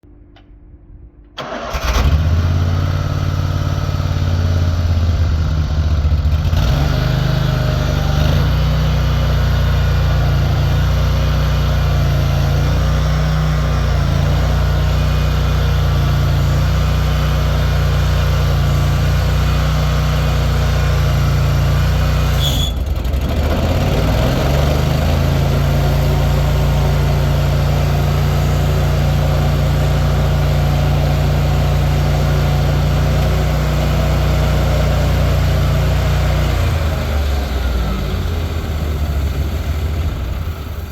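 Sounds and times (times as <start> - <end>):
stump grinder engine running: 1.4 - 40.9.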